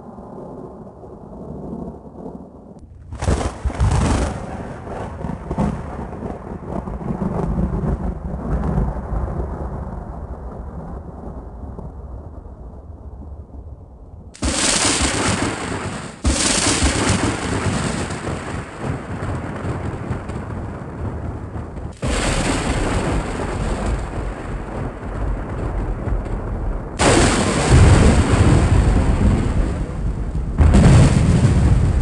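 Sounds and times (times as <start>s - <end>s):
rolling thunder rumble: 0.0s - 32.0s
sharp thunderclaps: 2.9s - 12.0s, 14.4s - 32.0s.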